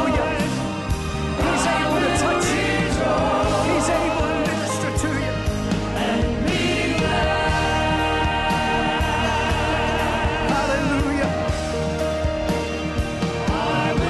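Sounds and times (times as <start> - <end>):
instrumental accompaniment: 0.0 - 14.0.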